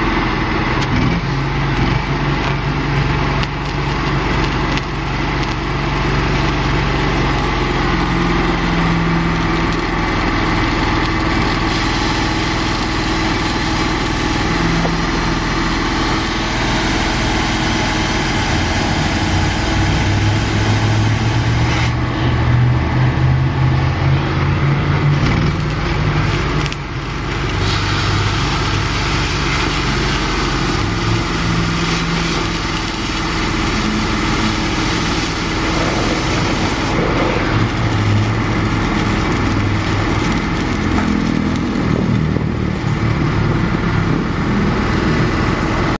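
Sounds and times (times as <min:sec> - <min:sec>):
low engine hum: 0:00.0 - 0:45.9
welding arc crackling: 0:00.6 - 0:45.9.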